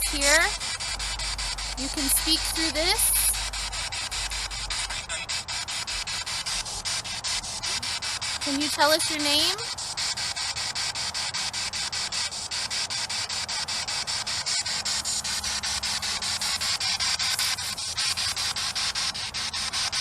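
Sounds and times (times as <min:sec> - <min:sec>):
pulsing radio static: 0:00.0 - 0:20.0.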